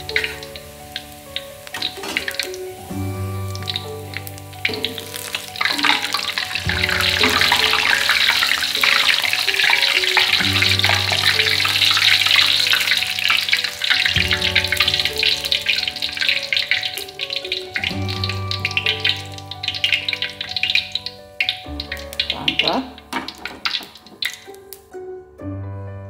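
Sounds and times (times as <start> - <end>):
garlic sizzling in hot oil: 0.0 - 24.8
background music: 0.0 - 26.0.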